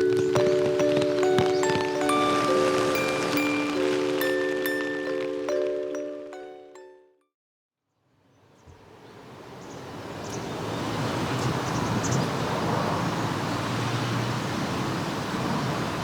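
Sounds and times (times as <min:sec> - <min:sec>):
road traffic noise: 0:00.0 - 0:06.4, 0:08.7 - 0:16.0.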